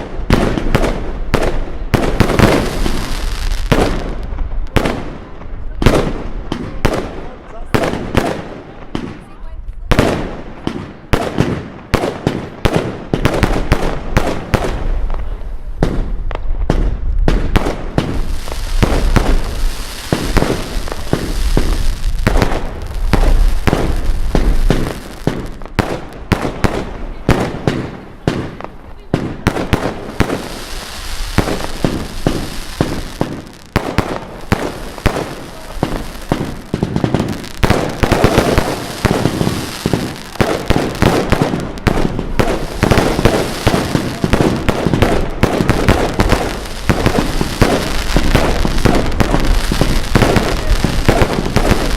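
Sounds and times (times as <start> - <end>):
fireworks bangs: 0.0 - 51.9
fireworks crackling: 0.0 - 51.9.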